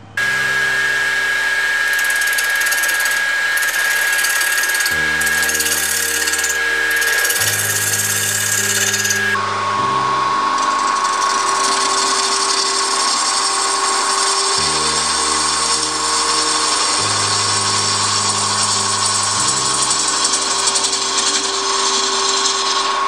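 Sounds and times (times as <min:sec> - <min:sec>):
lathe motor whine: 0:00.0 - 0:23.0
turning tool cutting wood hiss: 0:00.1 - 0:09.4, 0:10.4 - 0:23.0.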